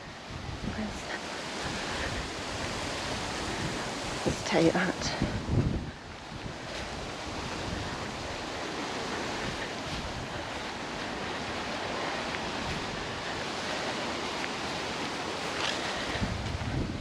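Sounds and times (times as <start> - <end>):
rushing wind: 0.0 - 17.0
wind buffeting microphone: 0.0 - 17.0.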